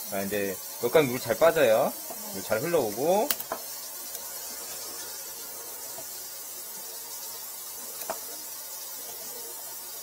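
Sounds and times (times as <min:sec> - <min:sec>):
tap water running down drain: 0:00.0 - 0:10.0.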